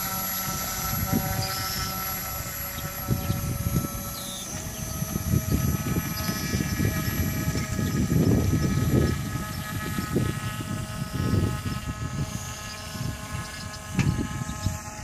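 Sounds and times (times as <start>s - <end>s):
airboat engine and propeller droning: 0.0s - 15.0s
wind buffeting microphone: 0.0s - 15.0s.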